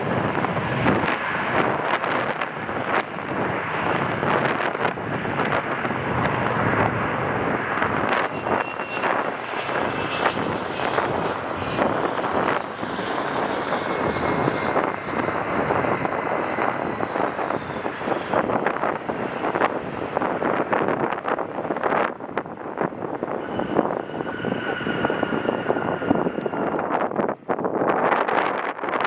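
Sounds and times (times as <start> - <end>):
jet engines roaring: 0.0 - 29.0
wind buffeting microphone: 0.0 - 29.0
faint high engine whine: 0.7 - 27.6.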